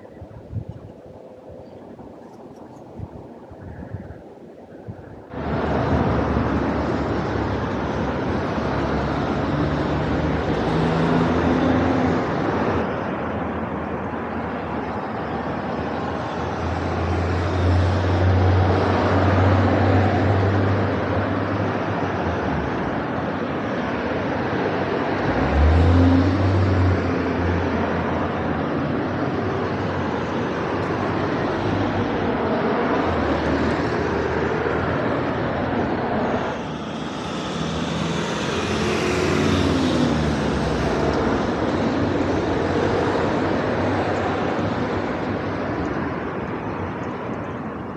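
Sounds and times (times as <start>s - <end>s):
road traffic noise: 0.0s - 47.9s
vehicles passing: 0.0s - 47.9s.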